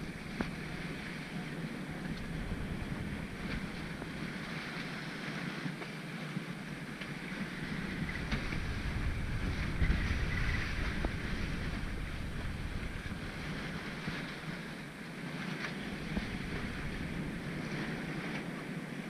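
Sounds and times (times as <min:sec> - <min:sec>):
water splashing along hull: 0:00.0 - 0:19.0
wind buffeting microphone: 0:00.0 - 0:19.0.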